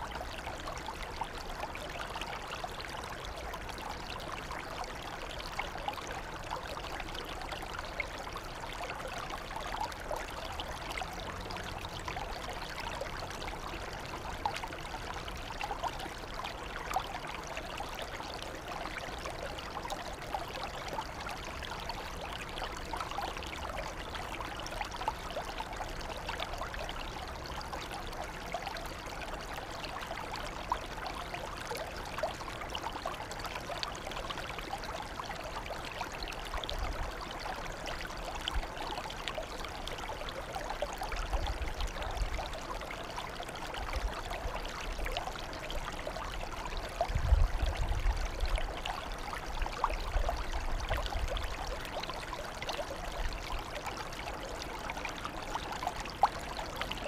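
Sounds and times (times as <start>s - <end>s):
shallow water trickling: 0.1s - 57.0s.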